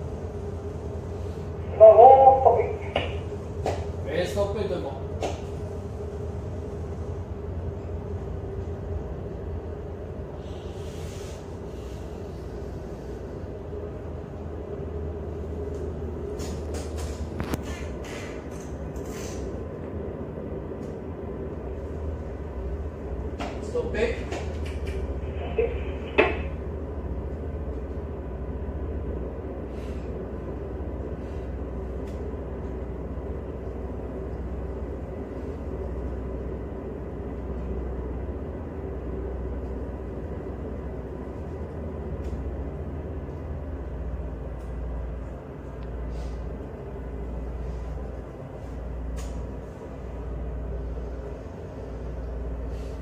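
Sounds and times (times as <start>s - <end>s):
boat engine low drone: 0.0s - 53.0s.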